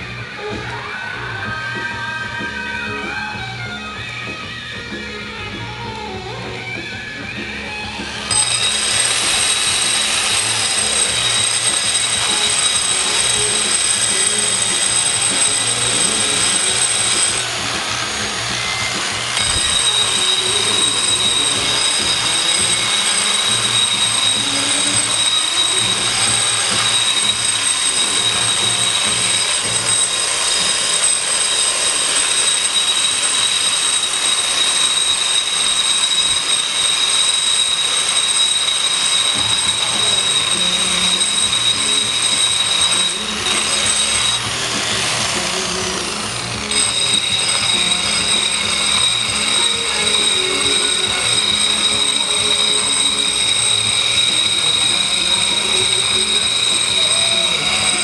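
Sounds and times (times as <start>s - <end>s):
grinder rasping on concrete: 3.7s - 58.0s.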